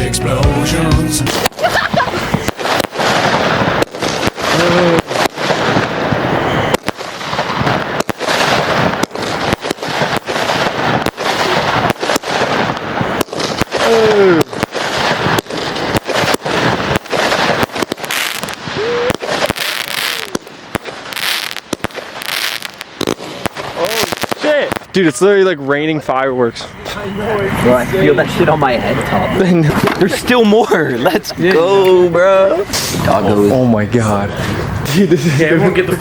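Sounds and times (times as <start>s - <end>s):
fireworks banging and crackling: 1.2s - 36.0s.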